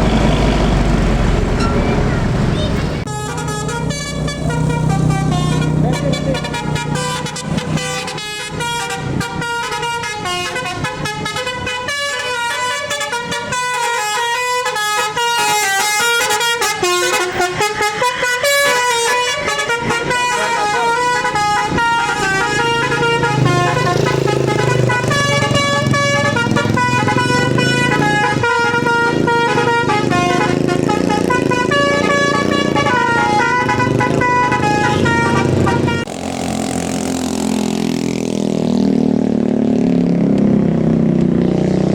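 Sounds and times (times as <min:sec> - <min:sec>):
bus engine running: 0:00.0 - 0:41.9
multi-tone bus air horn tune: 0:01.5 - 0:36.4.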